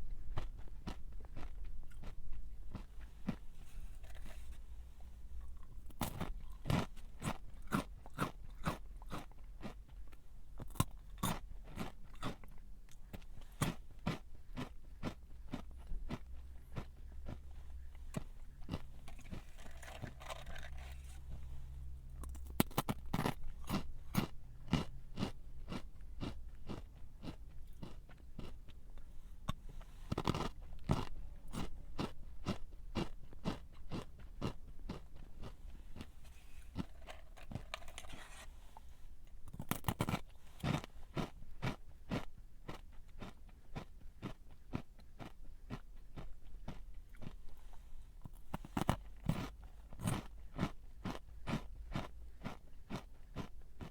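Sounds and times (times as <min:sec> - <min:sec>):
person chewing crunchy snack: 0:00.1 - 0:53.9.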